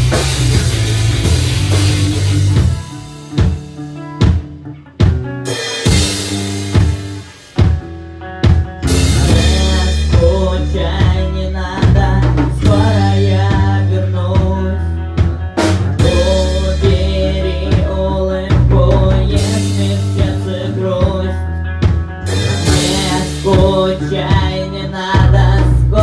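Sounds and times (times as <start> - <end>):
instrumental rock band music: 0.0 - 26.0.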